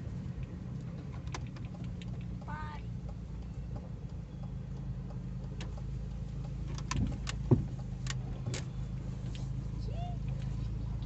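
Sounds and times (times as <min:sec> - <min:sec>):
car engine and road noise: 0:00.0 - 0:11.0
light clicks and rattles: 0:00.2 - 0:09.6.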